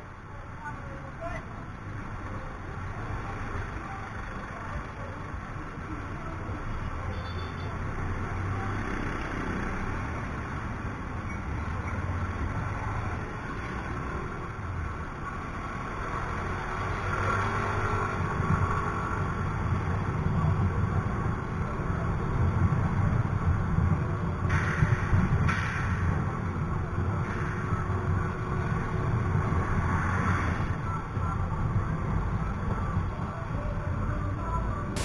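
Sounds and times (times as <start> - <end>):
surrounding traffic: 0.0 - 35.0.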